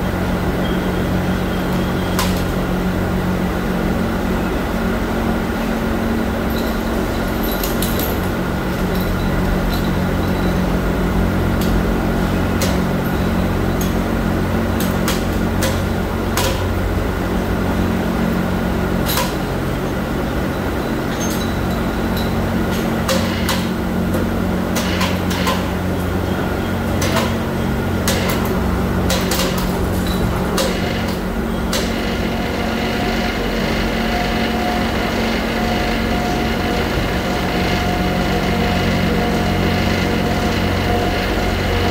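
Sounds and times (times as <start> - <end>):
factory machinery hum: 0.0 - 41.9.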